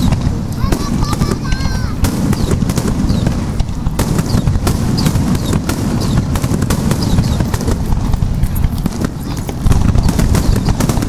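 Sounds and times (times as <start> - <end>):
continuous low rumble: 0.0 - 11.0
firework bangs and crackles: 0.0 - 11.0.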